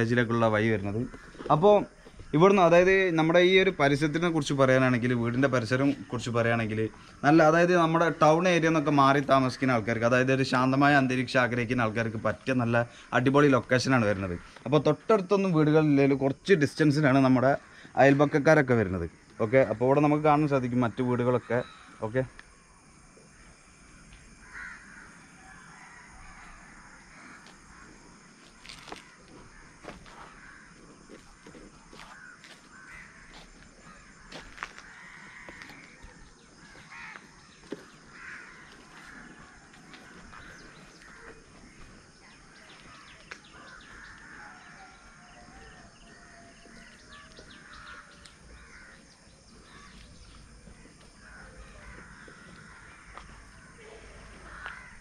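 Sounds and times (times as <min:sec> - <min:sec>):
crows cawing: 0:00.0 - 0:11.0, 0:17.4 - 0:19.9, 0:20.7 - 0:22.1, 0:23.4 - 0:55.0
faint outdoor ambience: 0:00.0 - 0:55.0.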